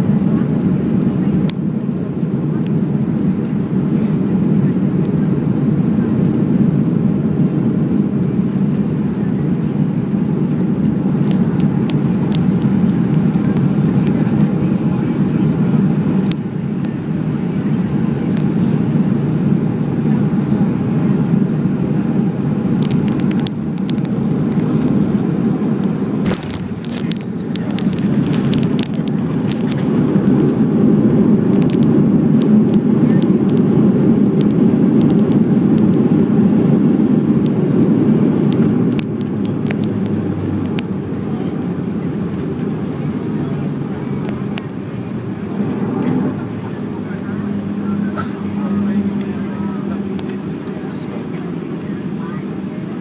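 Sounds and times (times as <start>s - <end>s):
jet engine cabin rush: 0.0s - 53.0s.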